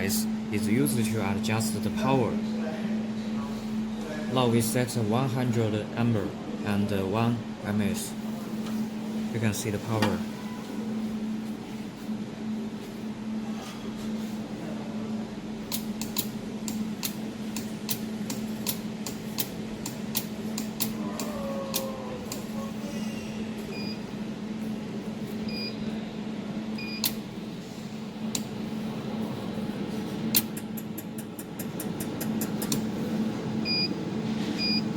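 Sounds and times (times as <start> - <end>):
chiller hum: 0.0 - 34.9.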